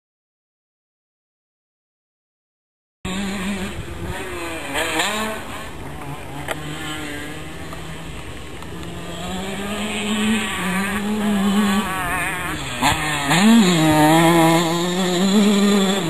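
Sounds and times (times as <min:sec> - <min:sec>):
motocross bike engine revving: 0:03.1 - 0:16.0.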